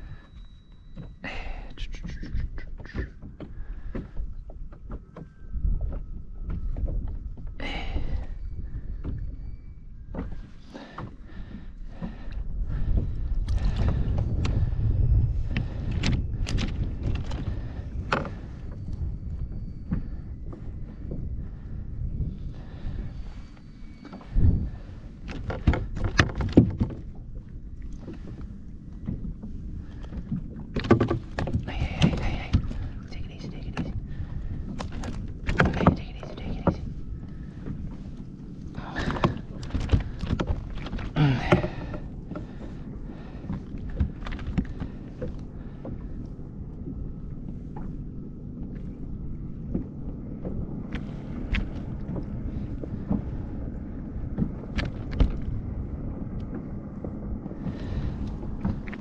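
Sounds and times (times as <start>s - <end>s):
low rumble: 0.0s - 59.0s.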